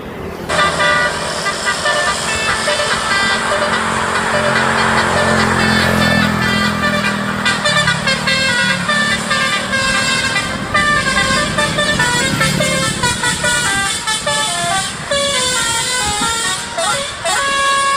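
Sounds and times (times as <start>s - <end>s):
low engine hum: 0.0s - 17.9s
bus horns playing a tune: 0.5s - 17.9s.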